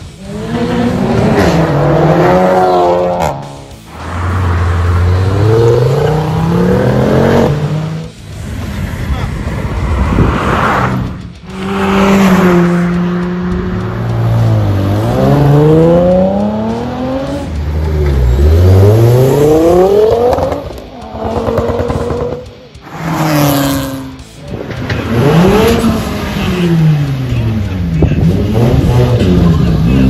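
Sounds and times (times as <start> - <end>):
cars revving past: 0.0 - 30.0.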